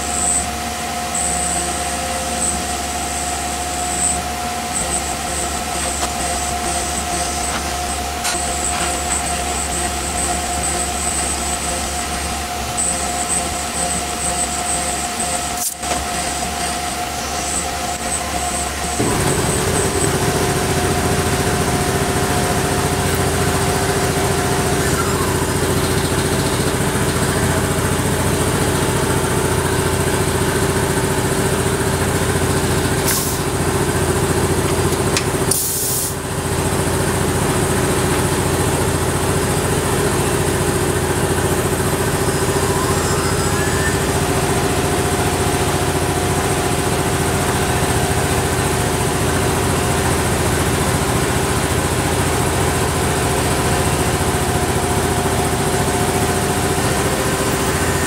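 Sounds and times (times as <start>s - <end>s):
milling machine hum and hiss: 0.0s - 58.0s.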